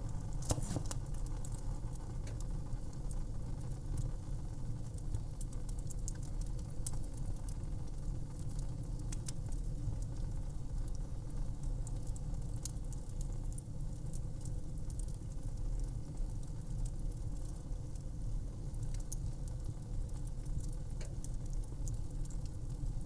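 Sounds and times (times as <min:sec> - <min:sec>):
fire crackling and popping: 0:00.0 - 0:23.0
low rumble of burning: 0:00.0 - 0:23.0.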